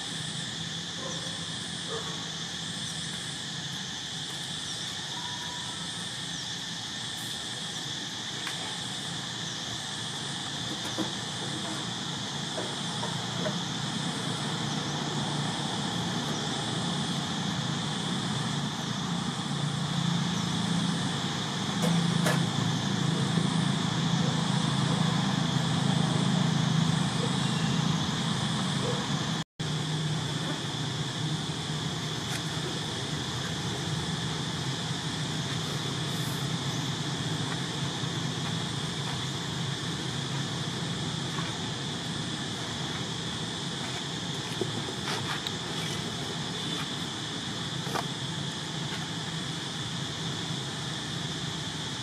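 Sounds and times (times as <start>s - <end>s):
continuous high buzz: 0.0s - 52.0s.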